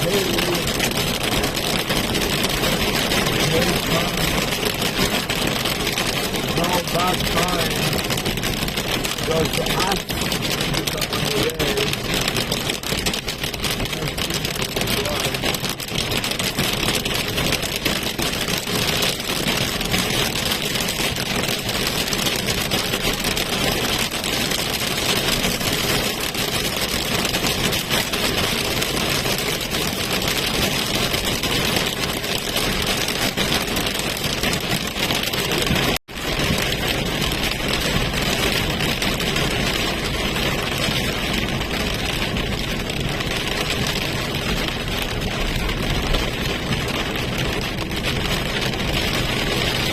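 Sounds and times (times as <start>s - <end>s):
car engine: 0.0s - 49.9s
rain beating on car roof: 0.0s - 49.9s
tyres on wet road: 0.0s - 49.9s.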